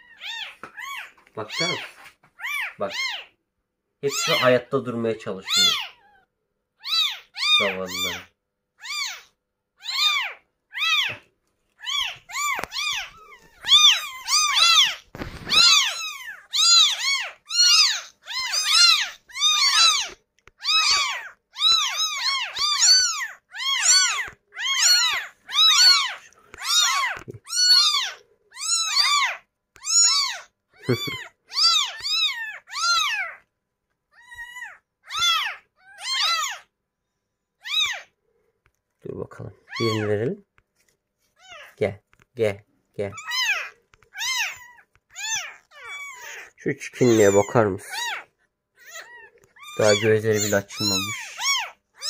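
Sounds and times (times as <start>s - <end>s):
kittens meowing: 0.0s - 3.4s, 4.0s - 33.5s, 34.1s - 36.7s, 37.6s - 38.2s, 39.1s - 40.5s, 41.2s - 52.0s.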